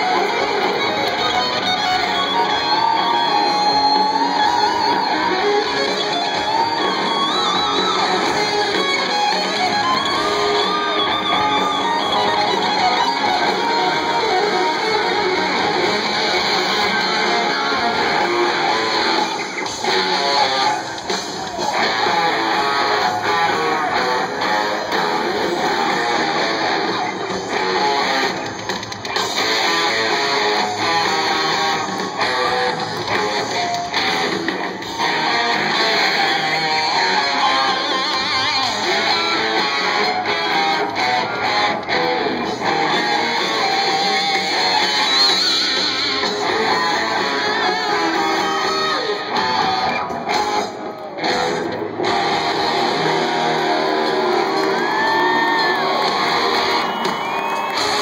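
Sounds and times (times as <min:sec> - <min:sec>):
electric guitar lead notes: 0:00.0 - 0:58.0
rock band playing: 0:00.0 - 0:58.0.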